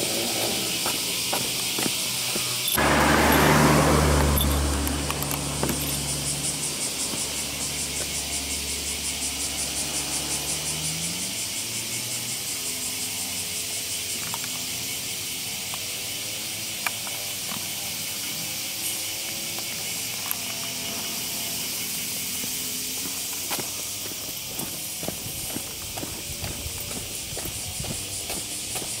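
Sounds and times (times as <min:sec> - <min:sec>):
cicada chorus: 0:00.0 - 0:29.0
faint engine drone: 0:00.0 - 0:29.0
vehicle engine hum: 0:00.0 - 0:29.0.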